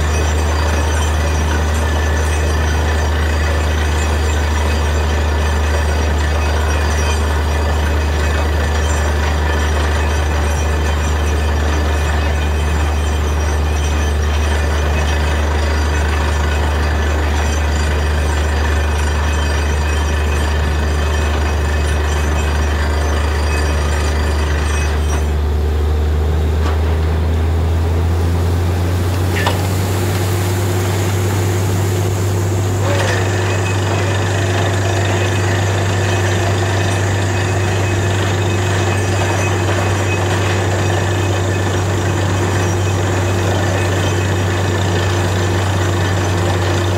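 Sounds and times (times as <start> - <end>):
drilling rig engine humming: 0.0 - 46.9.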